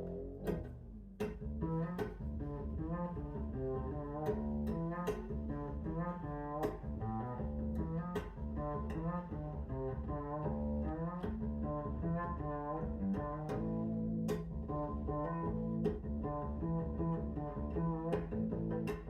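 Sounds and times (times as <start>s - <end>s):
deep bass line: 0.0s - 19.0s
plucked stringed instruments: 0.0s - 19.0s.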